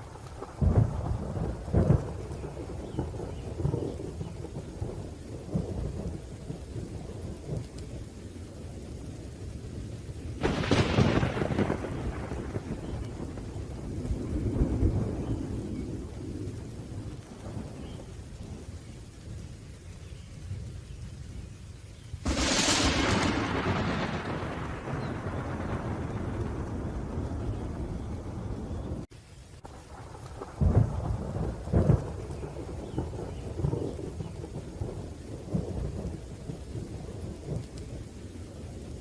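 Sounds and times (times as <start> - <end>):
sharp crack of thunder: 0.0 - 7.7, 10.4 - 18.7, 22.2 - 39.0
steady rain: 0.0 - 39.0
thunder rumbling: 0.0 - 39.0.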